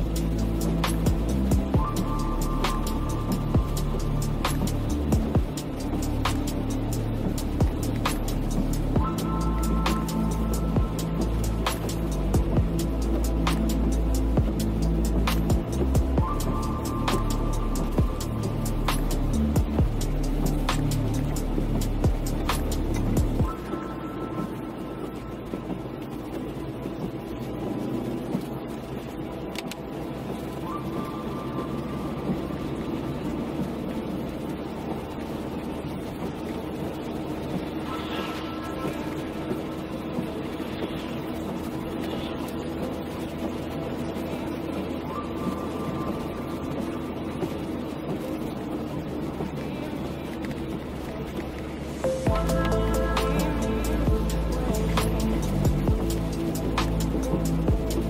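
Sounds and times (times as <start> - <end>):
engine and road hum: 0.0 - 58.0
tyres hissing on wet road: 0.0 - 58.0.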